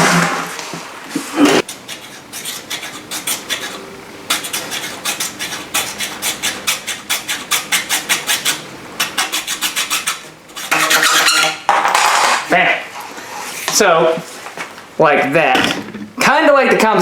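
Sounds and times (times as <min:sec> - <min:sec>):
hacksaw sawing: 0:00.0 - 0:13.8.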